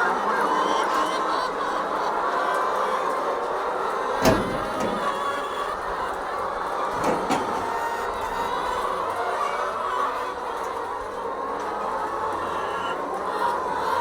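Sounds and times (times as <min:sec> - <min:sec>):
chickens squawking: 0:00.0 - 0:14.0.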